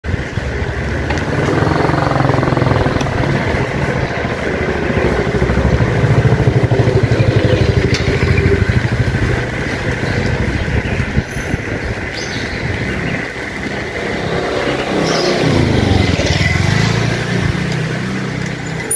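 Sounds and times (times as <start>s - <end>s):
wind rumbling on microphone: 0.0s - 18.6s
motor scooter engine passing: 0.2s - 11.2s, 12.1s - 18.9s.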